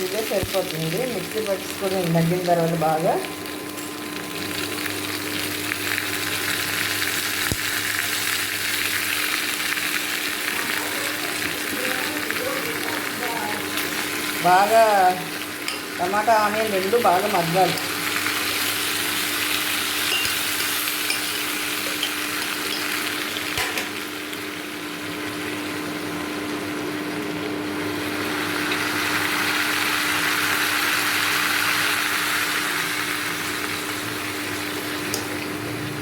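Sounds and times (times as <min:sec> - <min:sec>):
onions sizzling in oil: 0:00.0 - 0:36.0.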